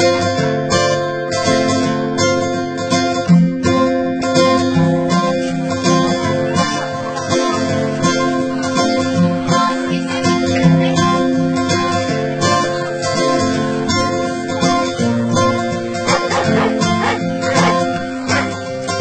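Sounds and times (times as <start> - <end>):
strummed acoustic guitar music: 0.0 - 19.0.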